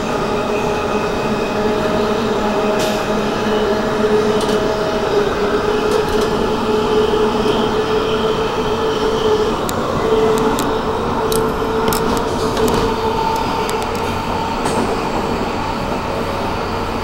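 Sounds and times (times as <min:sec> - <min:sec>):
train rumble and rush: 0:00.0 - 0:17.0.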